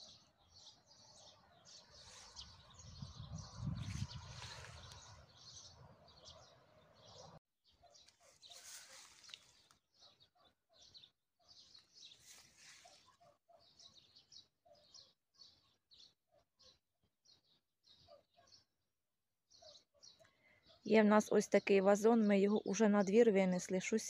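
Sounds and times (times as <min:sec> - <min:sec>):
faint songbirds chirping: 0:00.0 - 0:24.0.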